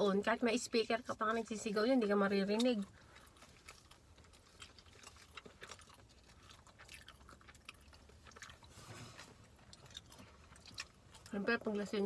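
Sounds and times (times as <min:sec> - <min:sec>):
chewing soft buns: 0:00.9 - 0:12.0.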